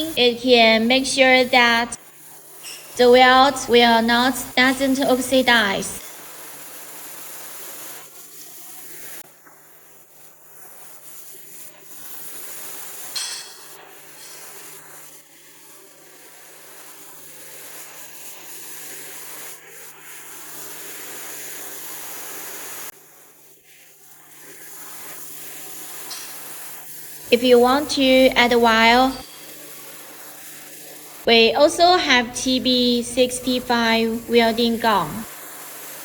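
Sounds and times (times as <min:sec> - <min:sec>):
welder arc hissing: 0:00.0 - 0:09.2, 0:09.8 - 0:36.0.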